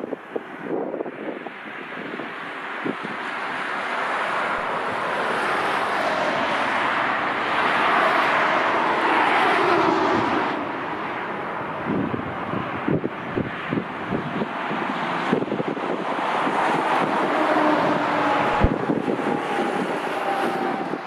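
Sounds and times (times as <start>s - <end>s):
jet engines passing: 0.0s - 21.0s.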